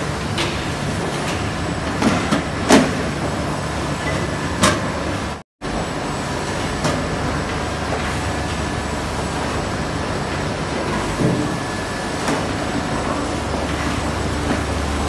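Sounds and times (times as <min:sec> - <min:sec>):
machine humming and hissing: 0:00.0 - 0:15.0.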